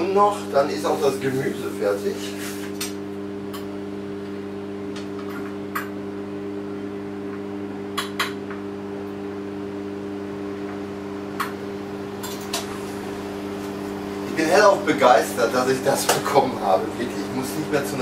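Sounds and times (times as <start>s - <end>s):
kitchen appliance electric hum: 0.0s - 18.0s.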